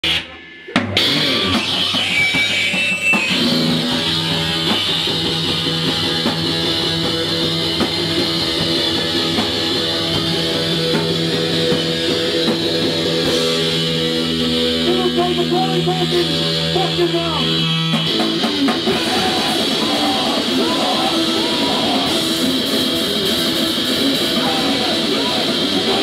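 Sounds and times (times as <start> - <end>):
electric guitar chords: 0.0 - 26.0
live heavy rock band: 0.0 - 26.0.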